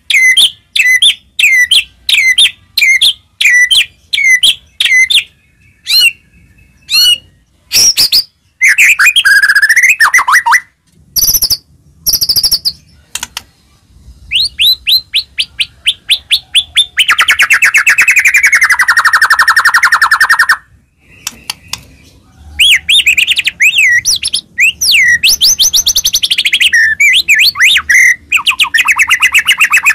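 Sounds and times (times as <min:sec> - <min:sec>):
songbird whistling and trilling: 0:00.0 - 0:13.0, 0:14.2 - 0:29.9.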